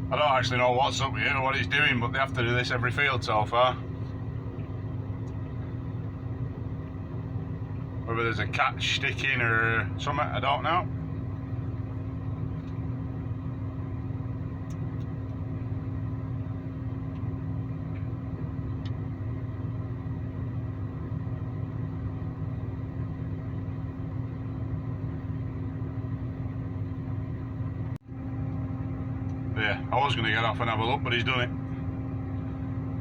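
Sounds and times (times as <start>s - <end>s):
engine humming from inside cab: 0.0s - 33.0s.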